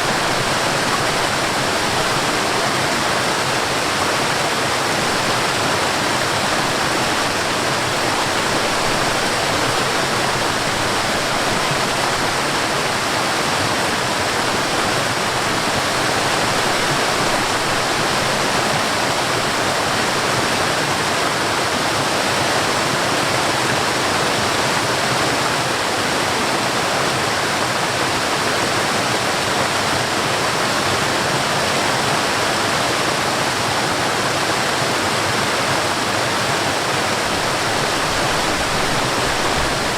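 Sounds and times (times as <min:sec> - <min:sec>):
water rushing over waterfall: 0:00.0 - 0:39.9.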